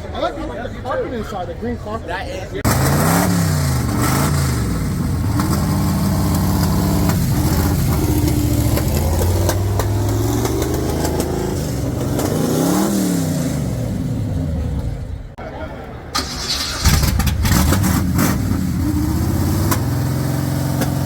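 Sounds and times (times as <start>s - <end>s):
car engine revving: 2.6s - 15.4s, 16.2s - 21.0s.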